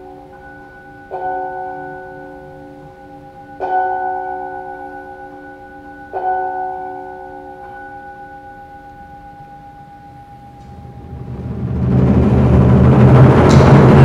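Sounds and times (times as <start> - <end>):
bell ringing: 0.0 - 11.6.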